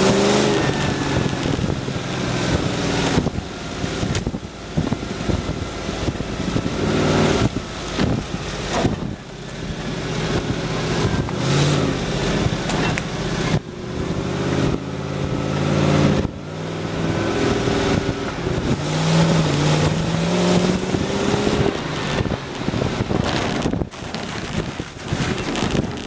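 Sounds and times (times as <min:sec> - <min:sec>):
vehicle body rattle: 0:00.0 - 0:13.8, 0:17.9 - 0:26.0
off-road engine pulling: 0:00.0 - 0:26.0
wind noise rushing: 0:00.0 - 0:26.0.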